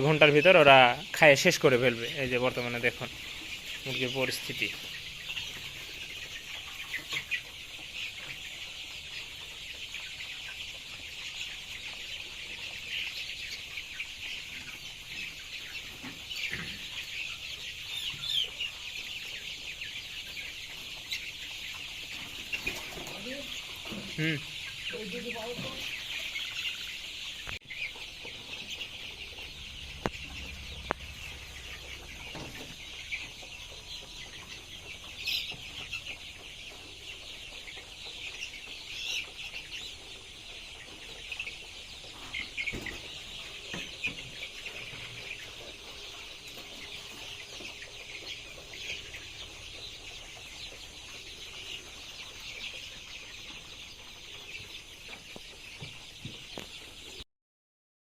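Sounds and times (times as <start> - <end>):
chickens chirping and clucking: 0.0 - 57.2.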